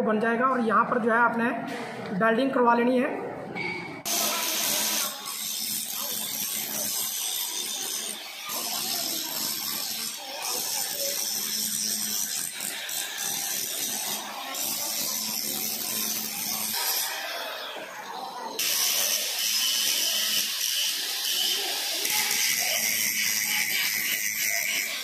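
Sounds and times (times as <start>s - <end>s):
angle grinder cutting steel pipe: 4.1s - 18.0s, 18.6s - 25.0s.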